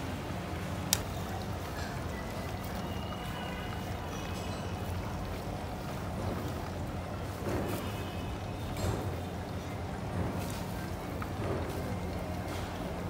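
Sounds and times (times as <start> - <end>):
gas stove burner rumble and hiss: 0.0 - 13.0.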